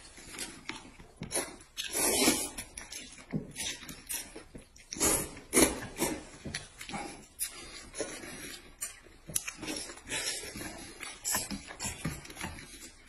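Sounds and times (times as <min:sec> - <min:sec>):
chewing: 0:00.0 - 0:13.0
slurping noodles: 0:01.3 - 0:13.0.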